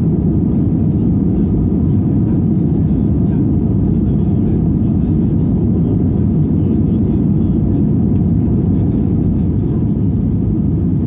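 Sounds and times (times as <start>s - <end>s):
airplane engines rumbling in cabin: 0.0s - 11.0s.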